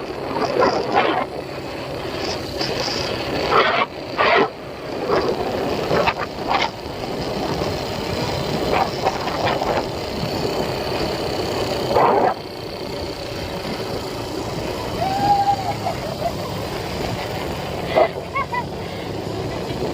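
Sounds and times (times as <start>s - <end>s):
atv engine running: 0.0s - 19.9s.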